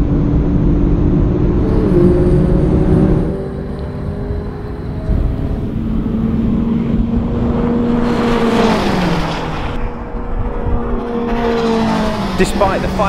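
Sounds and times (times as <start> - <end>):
sports car engines accelerating: 0.0 - 13.0.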